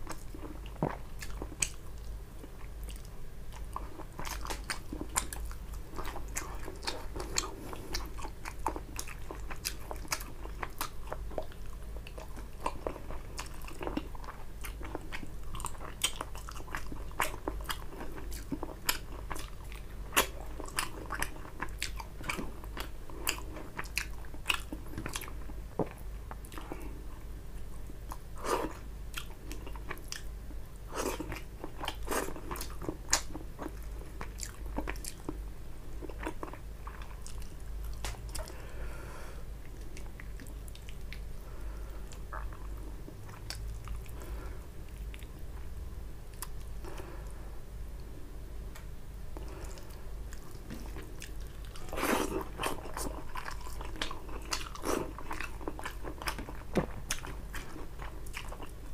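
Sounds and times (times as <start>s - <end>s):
chewing food: 0.0s - 27.0s, 28.1s - 30.3s, 31.0s - 35.4s, 36.0s - 38.6s, 39.6s - 41.3s, 42.1s - 45.6s, 49.4s - 58.9s.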